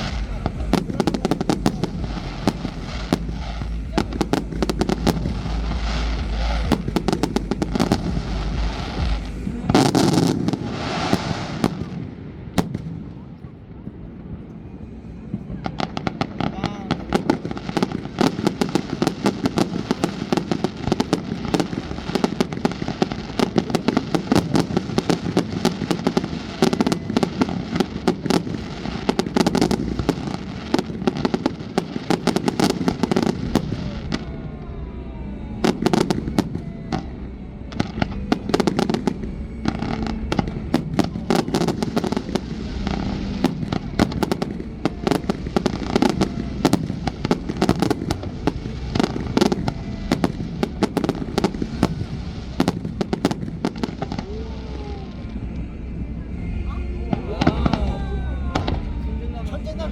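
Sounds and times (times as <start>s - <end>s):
fireworks bursts and crackling: 0.0s - 59.9s.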